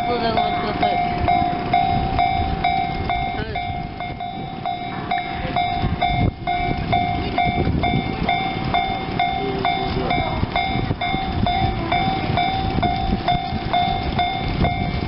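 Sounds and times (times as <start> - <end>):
crossing warning bell ringing: 0.0 - 15.0
low train rumble: 0.0 - 15.0.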